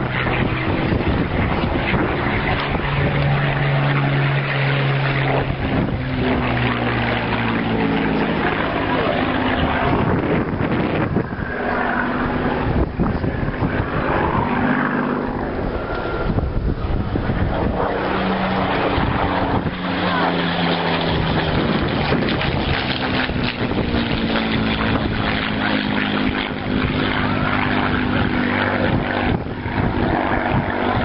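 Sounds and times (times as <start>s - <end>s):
propeller aircraft engines droning: 0.0s - 31.0s
noisy rushing background: 5.2s - 31.0s.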